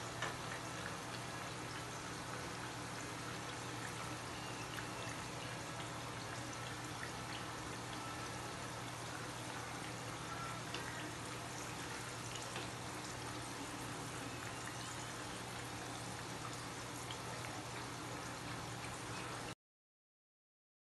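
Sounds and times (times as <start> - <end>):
low steady hum: 0.0 - 19.6.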